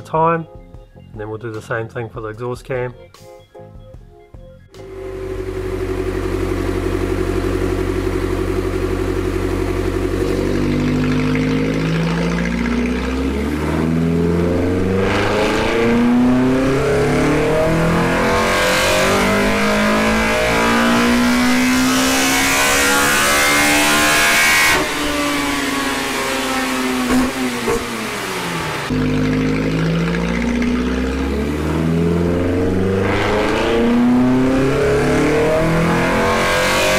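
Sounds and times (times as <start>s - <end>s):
car engine revving: 4.8s - 36.9s.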